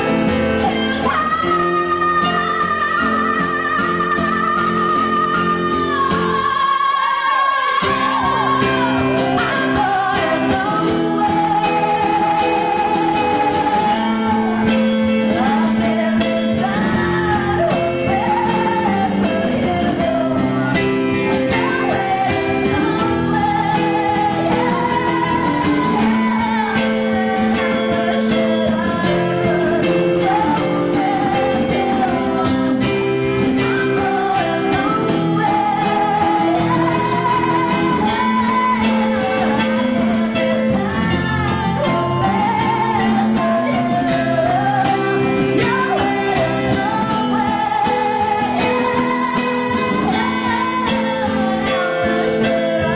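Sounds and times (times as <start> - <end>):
acoustic guitars: 0.0 - 52.9
woman singing: 0.0 - 52.9.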